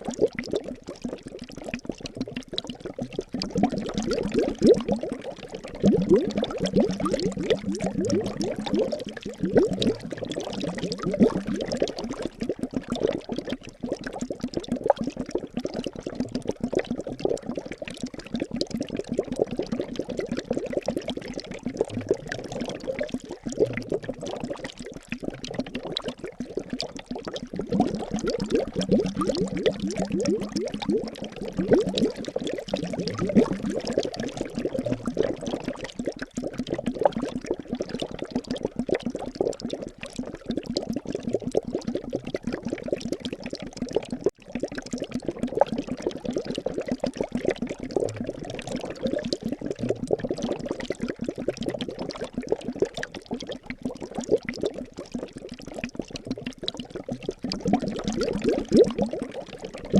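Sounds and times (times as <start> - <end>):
liquid bubbling: 0.0 - 59.9.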